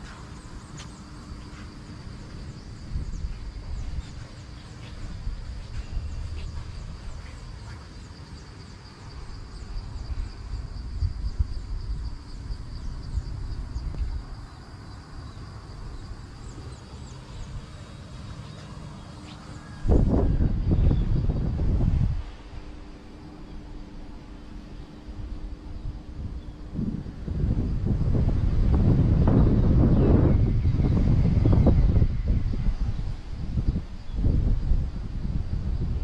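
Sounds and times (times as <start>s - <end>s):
high insect drone: 0.0s - 36.0s
low steady hum: 0.0s - 36.0s
wind rumbling on microphone: 0.0s - 36.0s.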